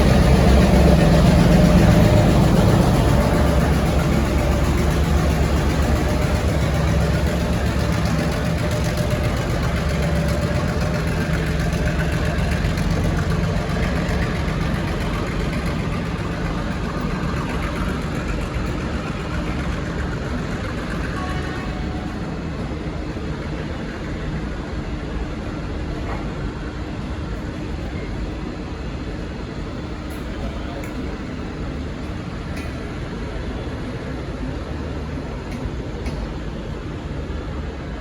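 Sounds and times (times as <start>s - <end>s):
locomotive engine running: 0.0s - 38.0s.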